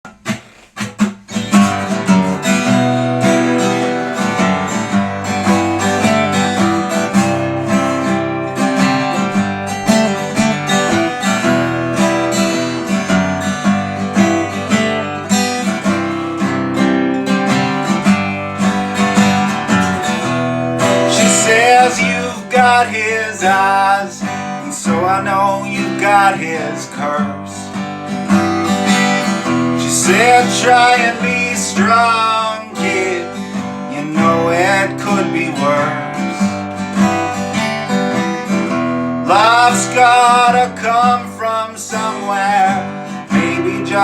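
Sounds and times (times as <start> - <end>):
acoustic guitar strumming: 0.0 - 44.0.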